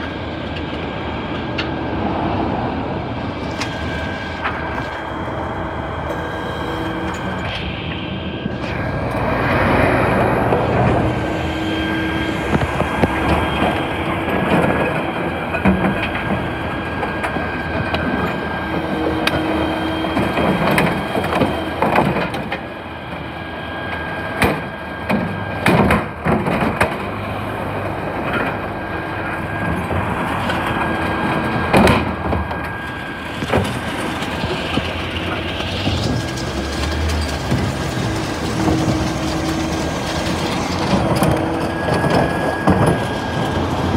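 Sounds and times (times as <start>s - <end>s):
bin lifter whine: 0.0s - 43.9s.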